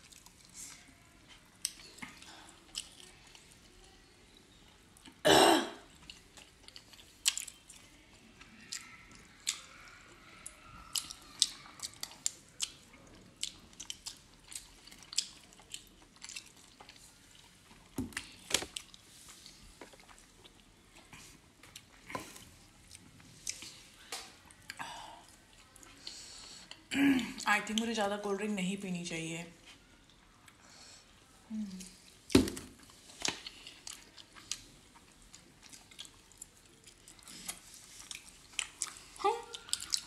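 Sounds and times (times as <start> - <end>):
people chewing and smacking: 0.0 - 5.2, 5.8 - 27.0, 29.6 - 40.0.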